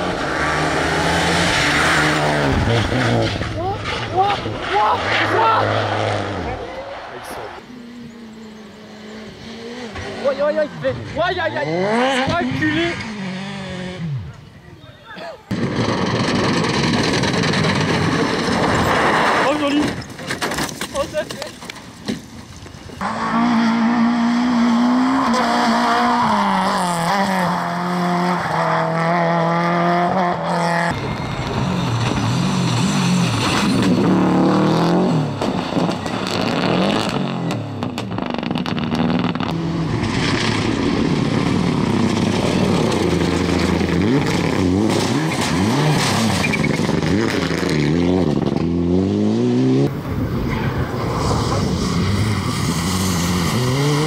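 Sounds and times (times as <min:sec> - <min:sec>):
cars passing close by: 0:00.0 - 0:14.6, 0:22.4 - 0:54.0
rally car engines revving: 0:00.0 - 0:14.7, 0:15.5 - 0:20.9, 0:21.5 - 0:54.0
car sliding: 0:00.1 - 0:07.8, 0:15.5 - 0:29.0, 0:30.4 - 0:48.8, 0:49.9 - 0:54.0.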